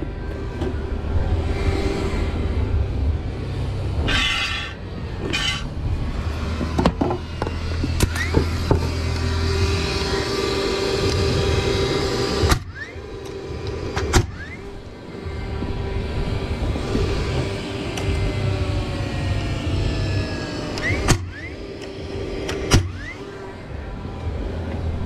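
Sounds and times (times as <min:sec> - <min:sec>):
motor hum: 0:00.0 - 0:25.0.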